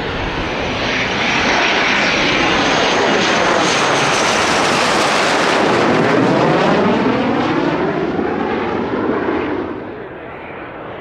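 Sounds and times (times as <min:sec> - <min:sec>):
fighter jet flying overhead: 0:00.0 - 0:11.0.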